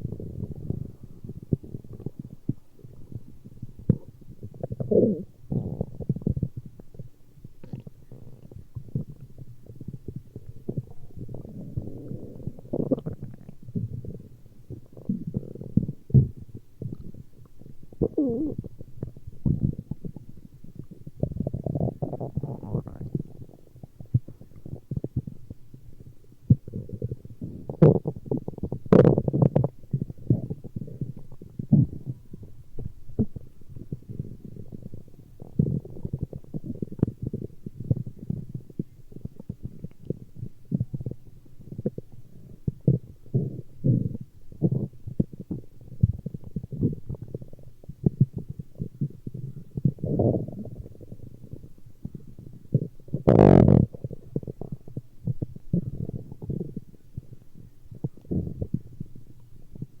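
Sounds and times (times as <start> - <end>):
stomach growling: 0.0 - 60.0.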